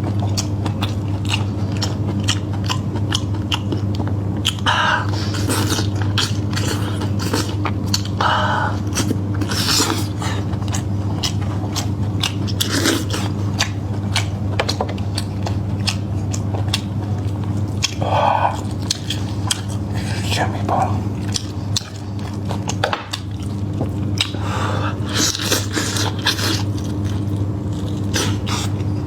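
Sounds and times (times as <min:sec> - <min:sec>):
person chewing meat: 0:00.0 - 0:29.0.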